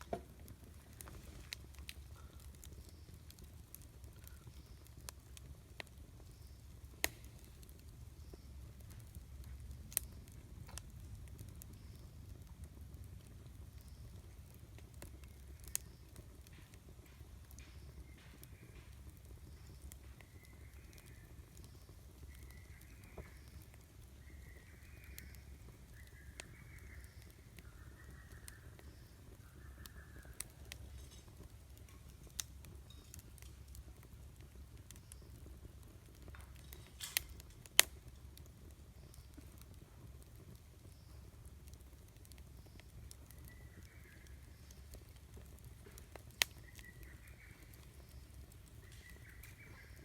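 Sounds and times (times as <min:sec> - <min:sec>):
campfire crackling and popping: 0:00.0 - 0:50.0.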